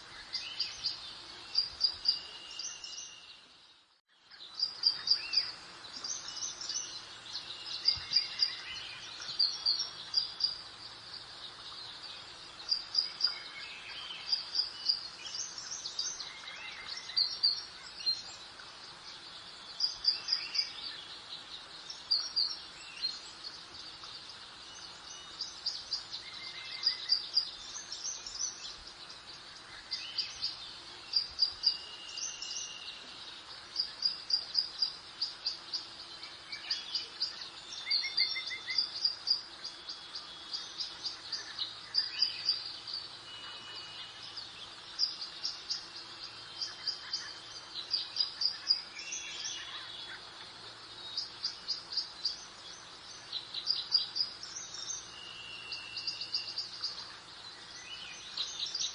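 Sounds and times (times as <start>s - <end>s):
birds chirping: 0.0s - 58.9s.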